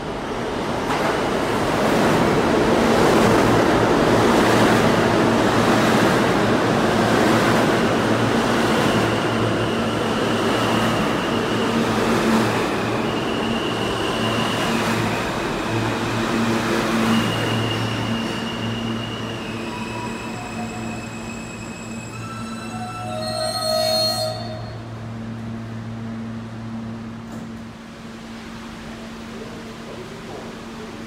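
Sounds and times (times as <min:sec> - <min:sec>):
subway wheels rumbling on rails: 0:00.0 - 0:31.0.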